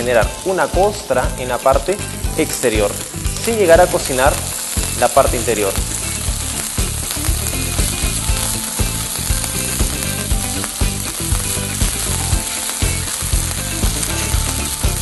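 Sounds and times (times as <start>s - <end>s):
meat sizzling in a frying pan: 0.0s - 15.0s
regular low beat: 0.0s - 15.0s.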